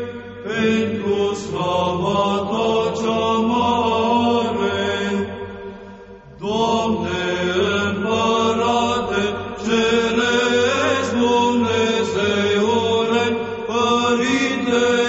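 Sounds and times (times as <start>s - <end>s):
held vocal drone: 0.0s - 15.0s
voices chanting slow melody: 0.0s - 15.0s.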